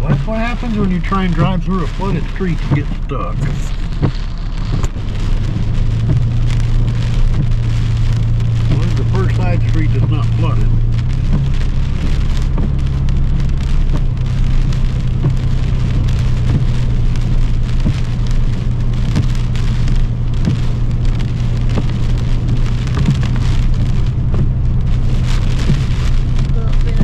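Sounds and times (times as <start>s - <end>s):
engine and road noise: 0.0s - 27.0s
heavy rain on car roof: 0.0s - 27.0s.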